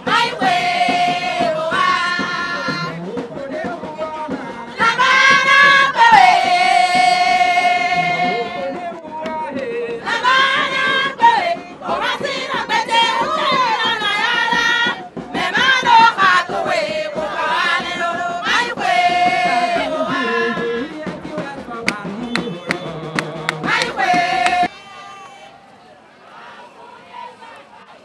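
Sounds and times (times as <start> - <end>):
women singing in chorus: 0.0 - 2.9, 3.6 - 21.7, 23.4 - 25.4.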